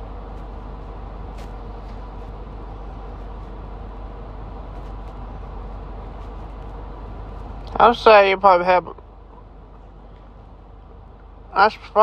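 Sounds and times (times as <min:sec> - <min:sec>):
faint hum: 0:00.0 - 0:12.0
vehicle engine low rumble: 0:00.0 - 0:12.0.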